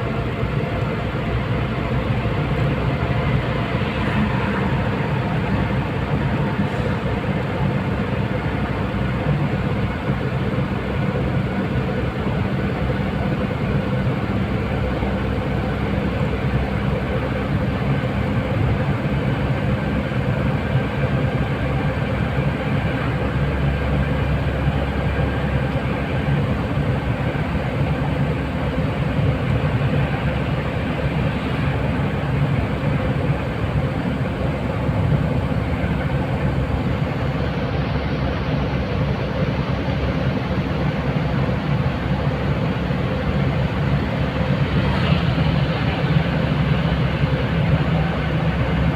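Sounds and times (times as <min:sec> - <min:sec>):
vehicle engine and tyre noise: 0:00.0 - 0:48.9.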